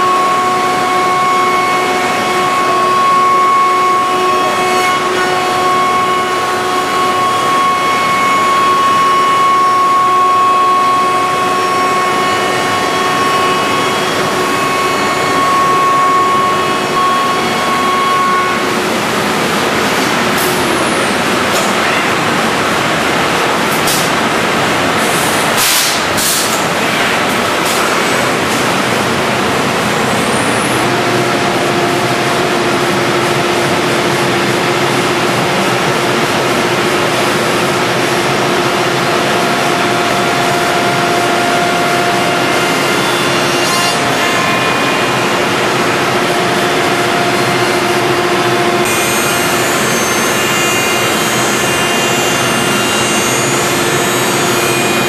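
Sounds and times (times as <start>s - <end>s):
router spindle whine: 0.0s - 23.5s, 26.8s - 55.0s
loud steady machine noise: 0.0s - 55.0s.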